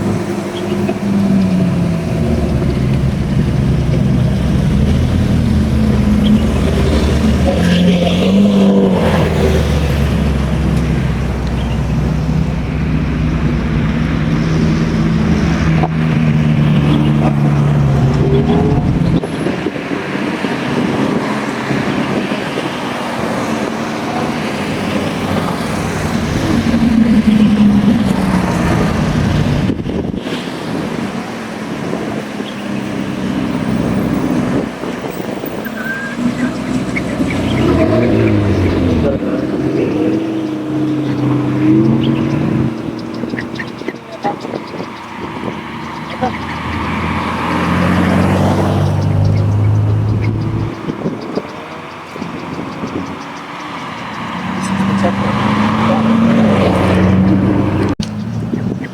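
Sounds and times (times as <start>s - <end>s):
engine note rising and falling: 0.0s - 58.8s
car engine running: 0.0s - 58.9s
traffic noise: 0.0s - 58.9s.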